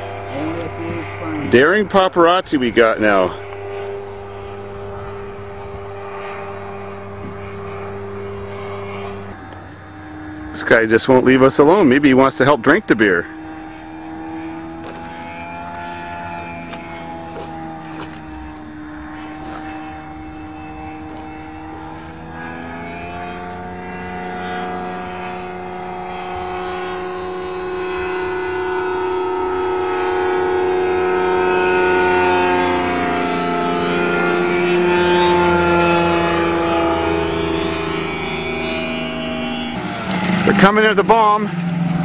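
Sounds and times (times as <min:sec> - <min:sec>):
propeller airplane engine droning: 0:00.0 - 0:42.0.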